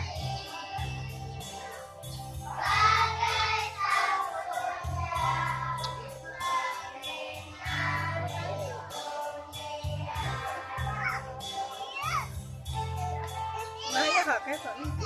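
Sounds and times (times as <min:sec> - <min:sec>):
children singing: 0:00.0 - 0:15.0
instrumental accompaniment: 0:00.0 - 0:15.0.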